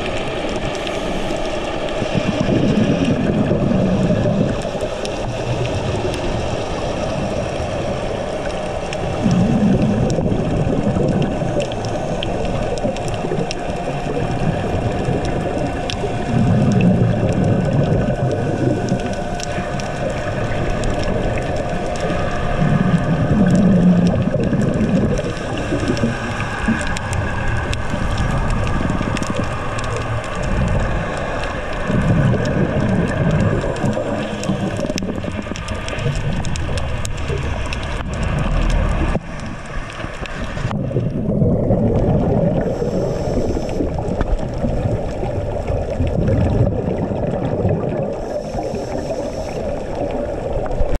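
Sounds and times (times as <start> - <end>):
steady rushing hiss: 0.0 - 41.1, 42.4 - 46.2, 48.1 - 51.0
scuba bubbles gurgling: 0.0 - 51.0.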